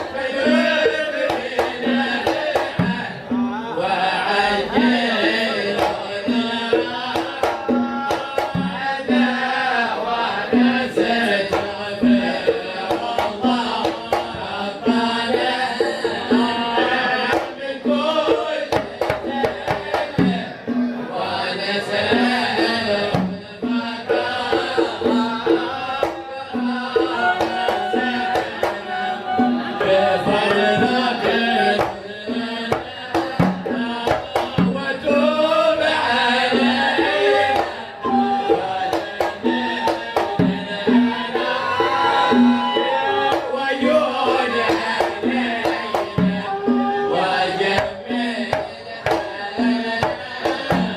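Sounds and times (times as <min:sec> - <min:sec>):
hand drum beat: 0:00.0 - 0:50.9
voices singing a melody: 0:00.0 - 0:50.9.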